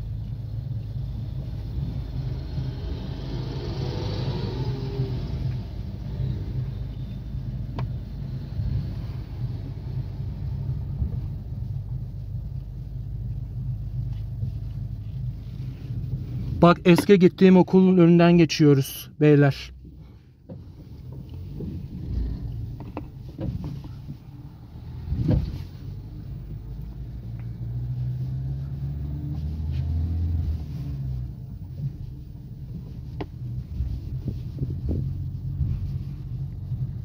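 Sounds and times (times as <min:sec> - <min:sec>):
road noise inside car: 0:00.0 - 0:37.0.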